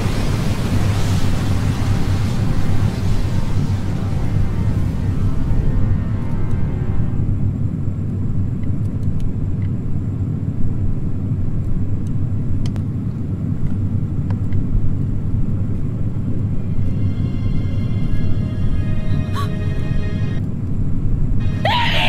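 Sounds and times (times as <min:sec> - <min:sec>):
deep steady rumble: 0:00.0 - 0:21.9.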